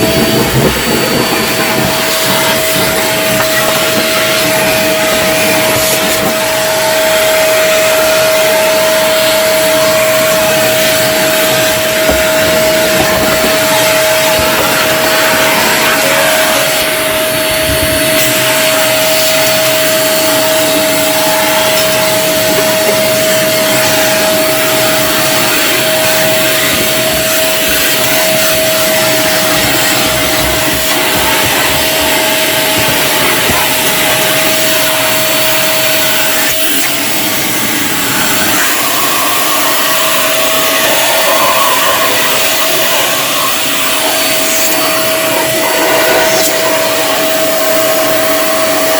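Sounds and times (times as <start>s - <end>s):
vacuum cleaner whining: 0.0s - 48.9s.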